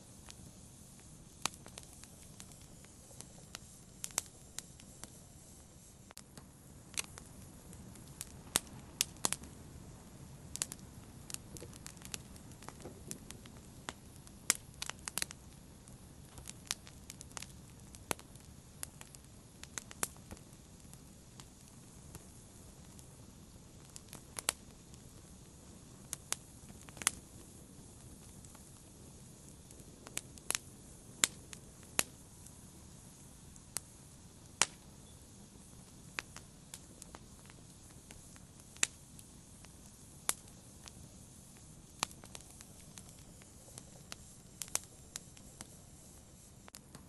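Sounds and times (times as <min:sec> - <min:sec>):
fire crackling and popping: 0:00.0 - 0:47.0.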